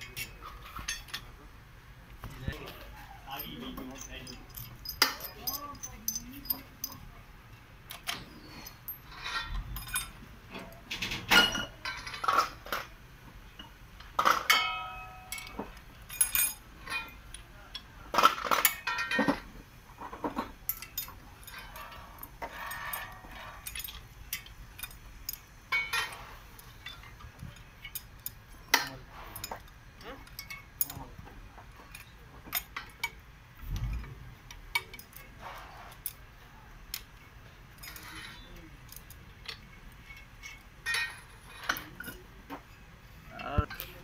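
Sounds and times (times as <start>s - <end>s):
metal parts and tools clinking: 0.0s - 1.4s, 2.3s - 7.2s, 7.9s - 13.0s, 13.6s - 44.0s.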